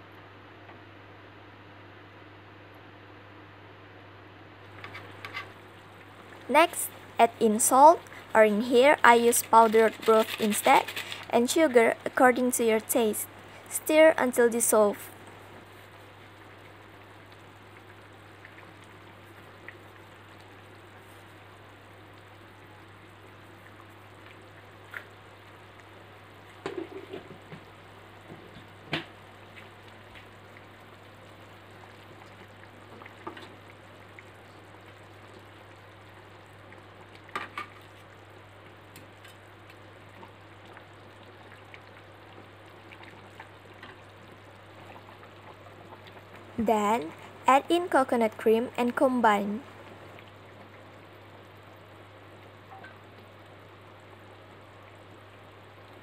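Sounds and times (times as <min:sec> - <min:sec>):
sauce bubbling in a wok: 0:04.6 - 0:56.0.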